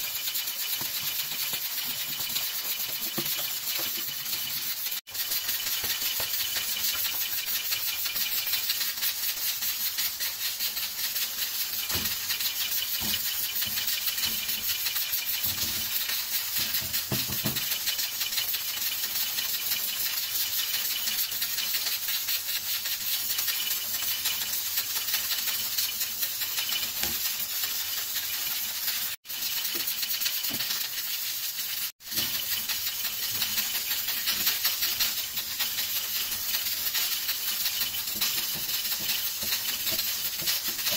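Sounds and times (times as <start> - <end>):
gas stove hissing: 0.0 - 40.9.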